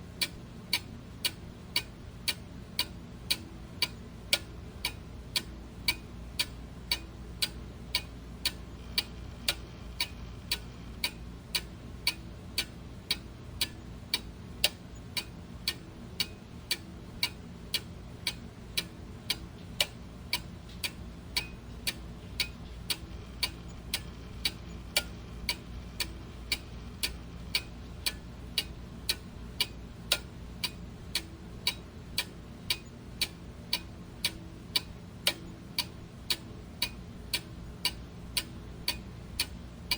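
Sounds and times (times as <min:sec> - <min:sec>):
low background hum: 0:00.0 - 0:39.9
clock ticking: 0:00.2 - 0:39.9.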